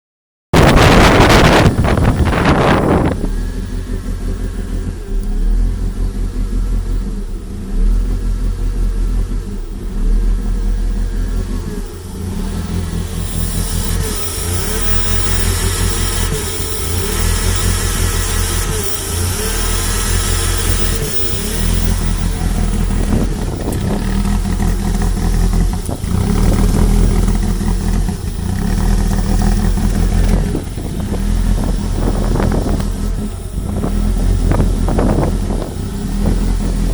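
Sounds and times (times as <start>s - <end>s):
engine rough idle: 0.6s - 36.9s.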